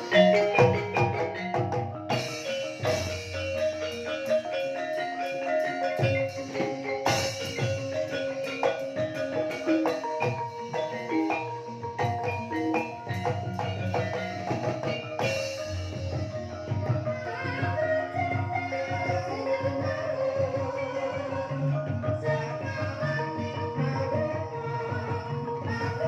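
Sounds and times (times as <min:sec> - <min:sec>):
struck mallet instrument melodies: 0:00.0 - 0:26.0.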